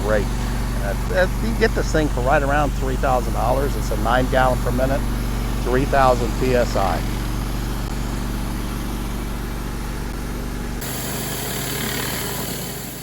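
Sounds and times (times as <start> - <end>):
pressure washer engine running: 0.0 - 13.0.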